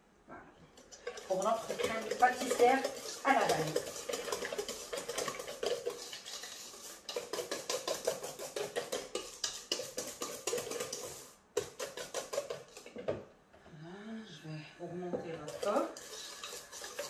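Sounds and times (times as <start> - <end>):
whisk clicking against bowl: 0.8 - 13.2, 15.4 - 17.0.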